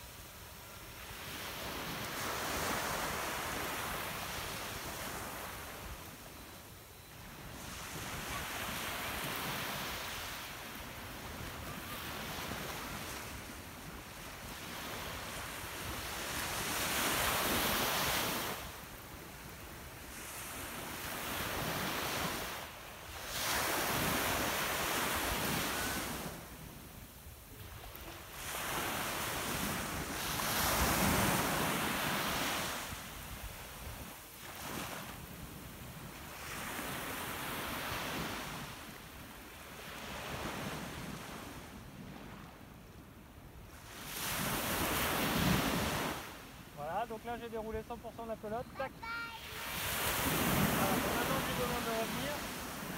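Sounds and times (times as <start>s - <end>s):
waves breaking on sandy beach: 0.0s - 52.9s.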